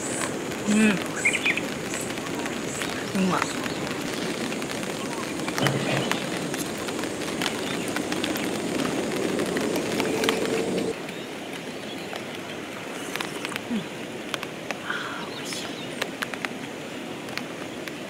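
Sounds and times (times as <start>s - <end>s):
raindrops ticking: 0.0s - 18.0s
steady rain: 0.0s - 18.0s.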